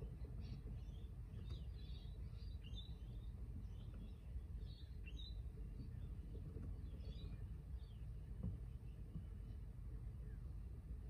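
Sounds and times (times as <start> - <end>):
small birds chirping: 0.0 - 9.6
low background rumble: 0.0 - 11.0.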